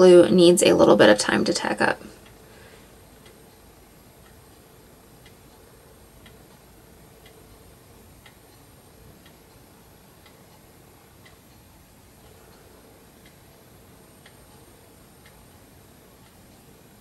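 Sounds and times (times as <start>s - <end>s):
faint room hum: 0.0s - 17.0s
clock ticking: 0.2s - 17.0s.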